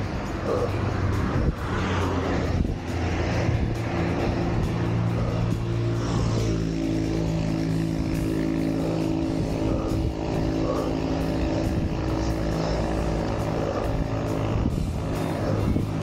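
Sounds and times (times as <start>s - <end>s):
humming held tones: 0.0s - 16.0s
wind rushing over microphone: 0.0s - 16.0s.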